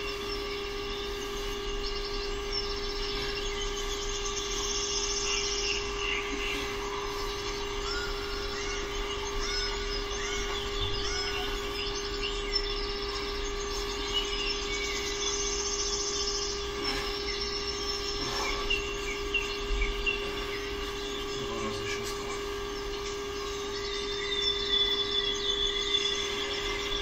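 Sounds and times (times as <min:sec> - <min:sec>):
small birds chirping: 0:00.0 - 0:27.0
steady humming tone: 0:00.0 - 0:27.0.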